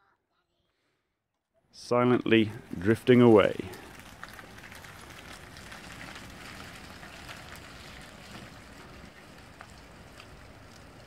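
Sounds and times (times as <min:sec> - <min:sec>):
tyres hissing on wet tarmac: 0:01.8 - 0:11.0.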